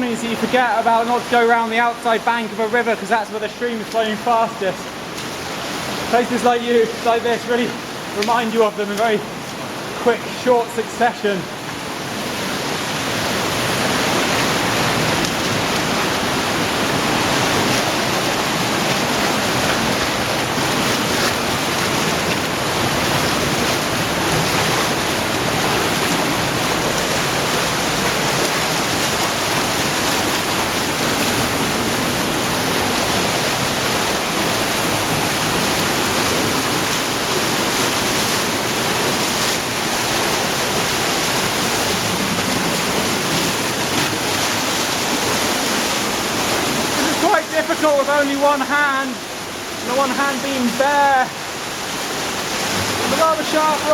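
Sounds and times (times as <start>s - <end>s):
cave stream rushing: 0.0s - 53.9s.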